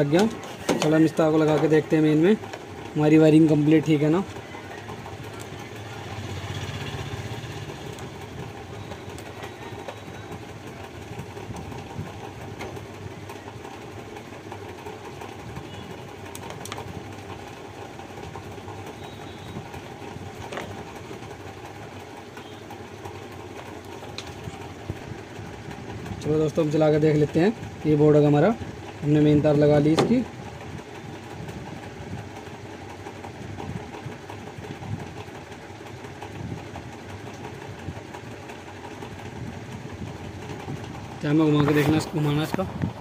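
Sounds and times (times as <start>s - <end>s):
mechanical background hum: 0.0s - 43.0s.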